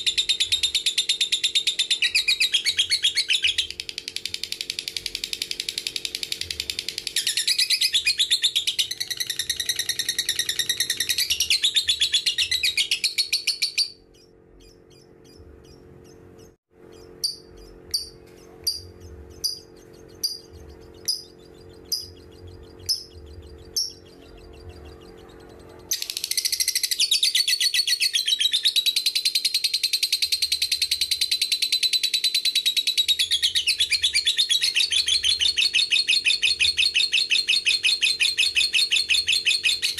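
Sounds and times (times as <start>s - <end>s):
bird sharp chirps: 0.0s - 39.9s
lovebird chattering song: 0.0s - 39.9s.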